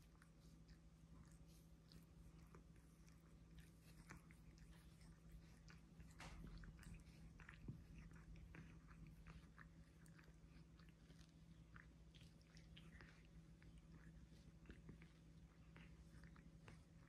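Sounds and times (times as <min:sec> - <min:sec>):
cat licking fur: 0:00.0 - 0:17.0
faint low hum: 0:00.0 - 0:17.0.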